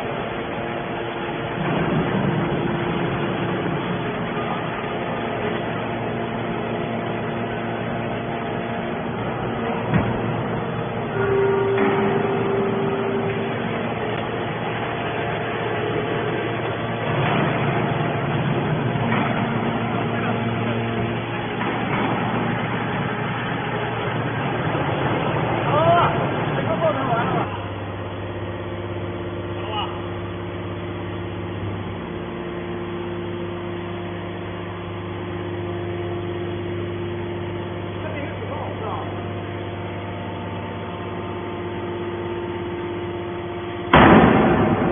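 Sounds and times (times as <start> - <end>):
hydraulic machinery running: 0.0 - 44.9
steady whine: 0.0 - 44.9.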